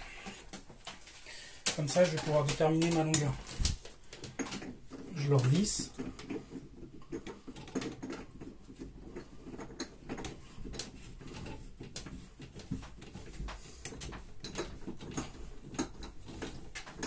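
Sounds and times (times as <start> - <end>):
plastic tubing clicks and rubbing: 0.1 - 17.0.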